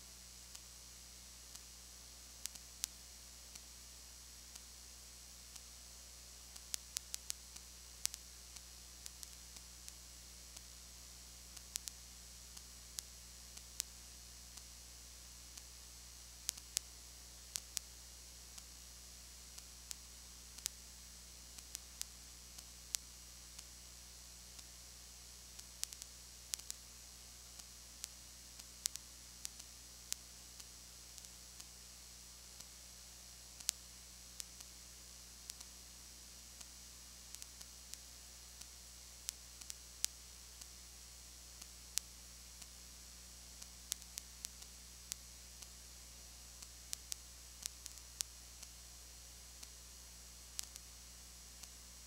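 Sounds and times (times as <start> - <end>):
recording hiss: 0.0 - 52.0.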